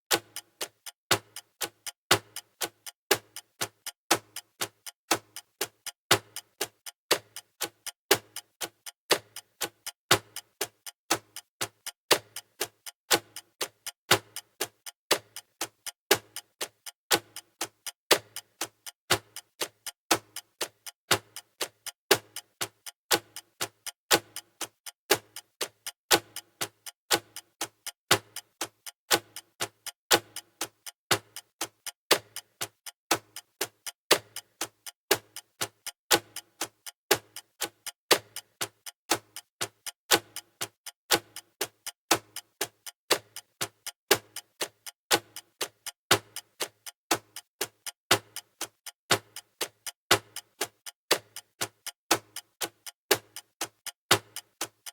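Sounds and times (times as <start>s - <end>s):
clock ticking: 0.1s - 54.9s.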